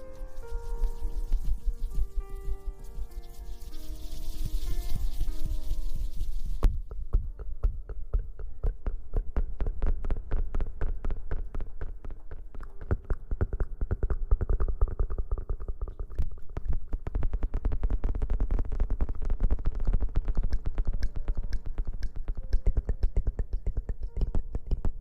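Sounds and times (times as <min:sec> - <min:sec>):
soft rapid taps and thuds: 0:00.1 - 0:25.0.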